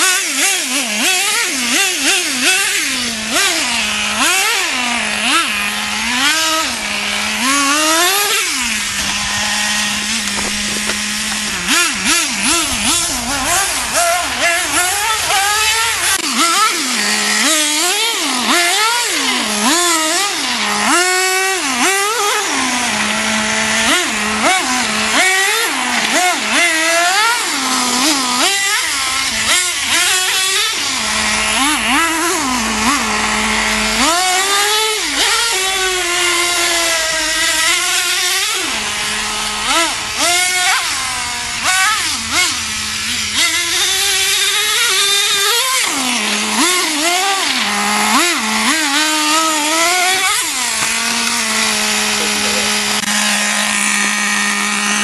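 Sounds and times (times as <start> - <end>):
rc nitro engine revving: 0.0 - 55.0.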